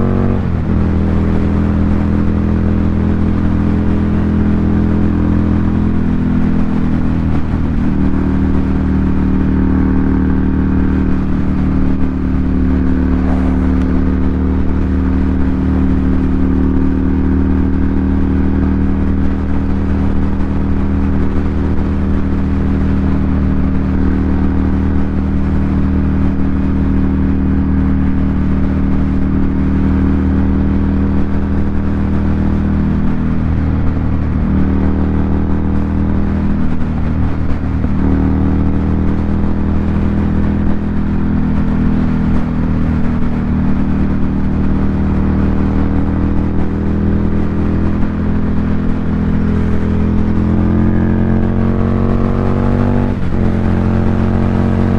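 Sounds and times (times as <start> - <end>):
loud motorcycle engine running: 0.0 - 54.9.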